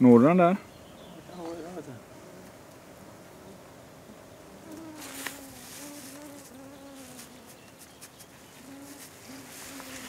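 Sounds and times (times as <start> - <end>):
flying insect buzzing: 1.1 - 10.0.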